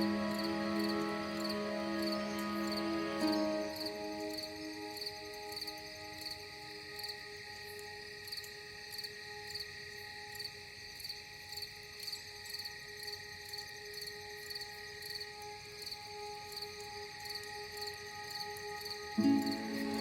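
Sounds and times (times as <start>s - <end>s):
soft ambient music tones: 0.0s - 20.0s.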